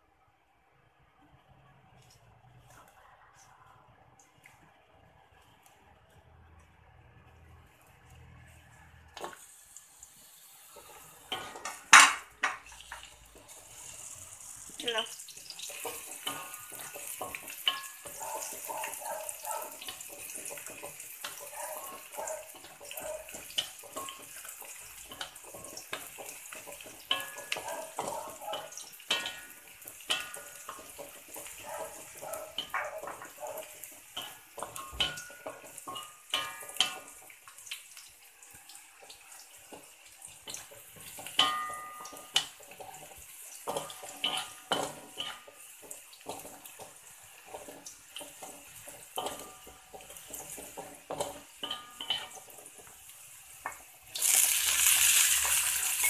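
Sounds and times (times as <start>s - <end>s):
aromatics sizzling in hot oil: 1.0s - 56.0s
wooden spatula scraping wok: 6.2s - 37.6s, 39.1s - 56.0s.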